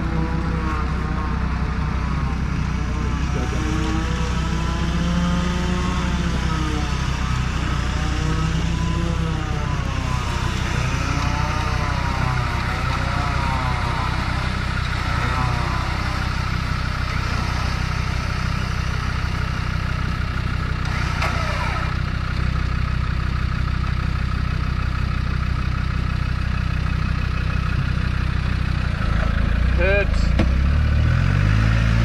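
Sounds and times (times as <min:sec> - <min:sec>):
engine idling: 0:00.0 - 0:31.5.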